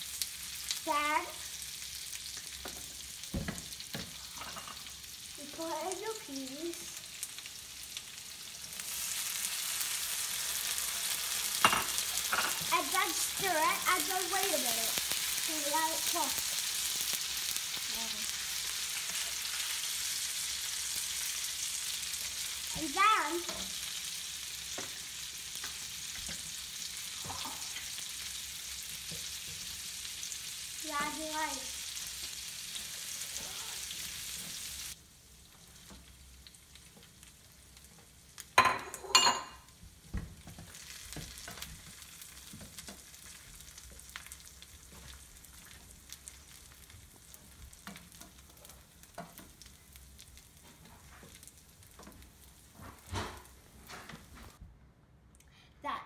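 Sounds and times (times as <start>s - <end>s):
food sizzling in hot oil: 0.0s - 54.6s.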